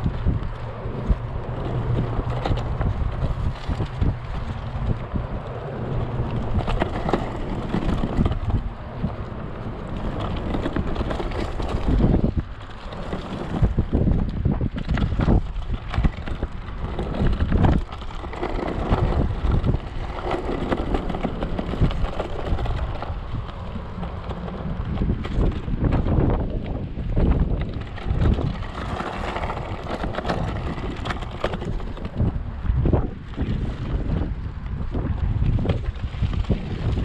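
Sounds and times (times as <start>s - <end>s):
electric scooter rumbling and rattling: 0.0s - 37.0s
knocks over bumps: 0.0s - 37.0s
wind buffeting microphone: 0.0s - 37.0s.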